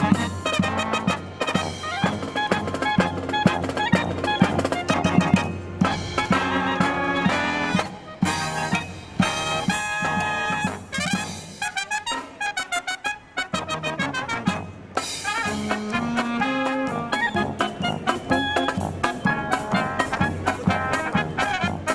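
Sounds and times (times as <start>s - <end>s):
marching brass band playing: 0.0s - 21.9s.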